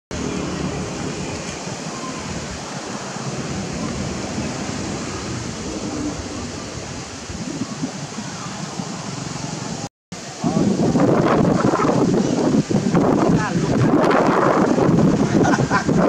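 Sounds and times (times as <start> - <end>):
rushing wind: 0.1 - 16.0
wind buffeting microphone: 0.1 - 16.0.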